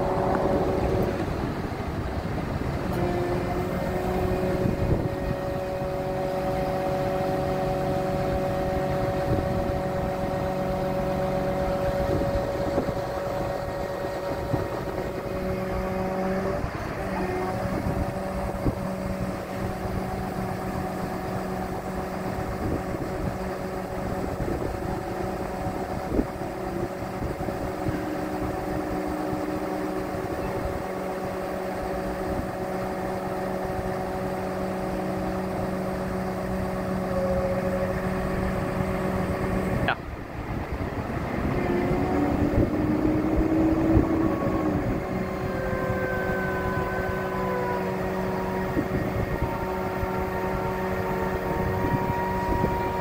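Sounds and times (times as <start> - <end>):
hydraulic hum and whine: 0.0 - 53.0
truck diesel engine running: 0.0 - 53.0.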